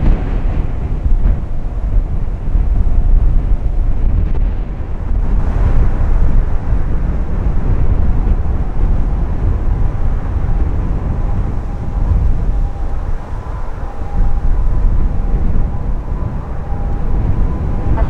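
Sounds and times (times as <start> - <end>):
airliner engine landing: 0.0 - 18.0
wind buffeting microphone: 0.0 - 18.0.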